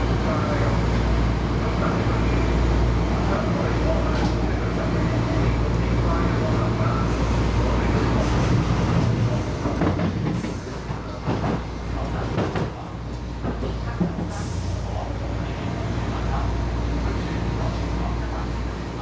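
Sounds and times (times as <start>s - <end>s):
train running noise and hum: 0.0s - 19.0s.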